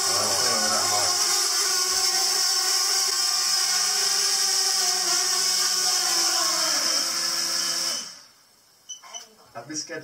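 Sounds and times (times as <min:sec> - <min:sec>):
small electric motor whirring: 0:00.0 - 0:08.3.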